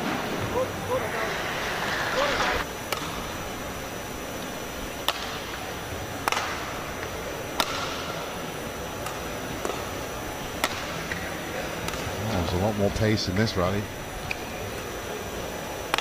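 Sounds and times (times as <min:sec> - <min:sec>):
arena background noise: 0:00.0 - 0:16.0.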